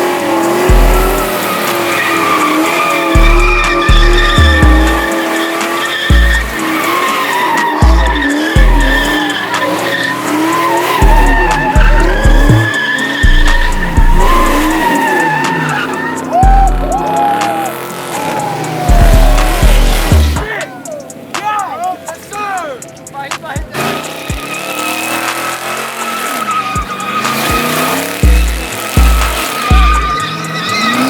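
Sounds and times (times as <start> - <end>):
car tyres squealing: 0.0 - 31.0
hip-hop music with heavy bass: 0.0 - 31.0.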